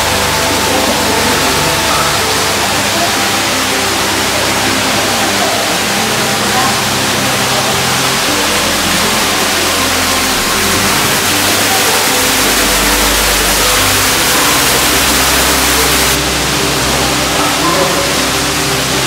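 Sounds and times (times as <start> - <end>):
water splashing into a pool: 0.0 - 19.0.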